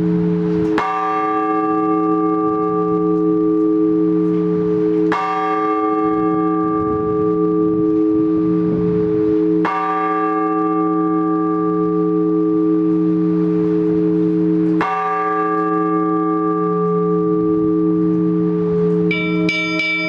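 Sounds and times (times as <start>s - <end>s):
church bell ringing: 0.0s - 20.0s.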